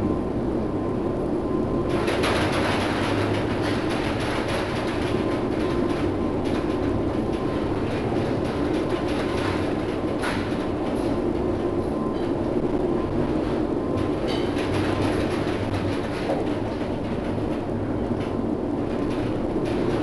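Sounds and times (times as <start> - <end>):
ship engine rumbling: 0.0 - 20.0
wind: 0.0 - 20.0.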